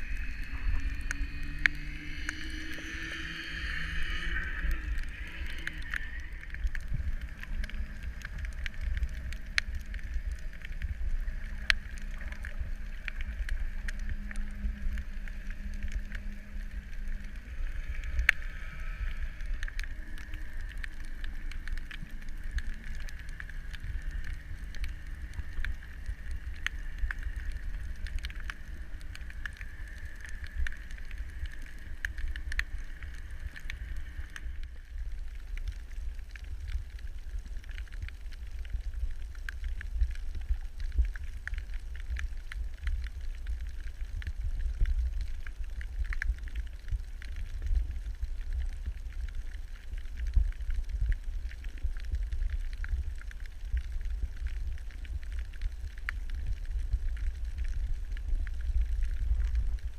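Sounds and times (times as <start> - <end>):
faint hum: 0.0 - 59.9
underwater water rumble: 0.0 - 59.9
sharp underwater clicks: 0.1 - 59.9.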